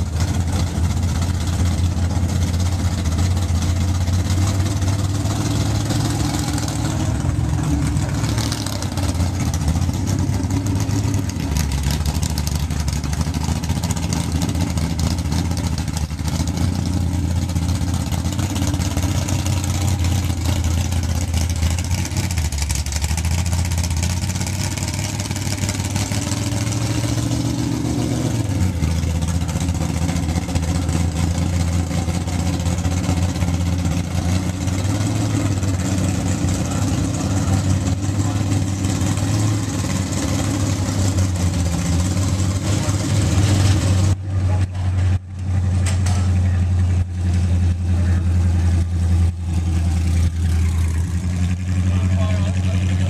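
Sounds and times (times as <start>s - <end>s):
loud car engine idling and revving: 0.0s - 53.0s.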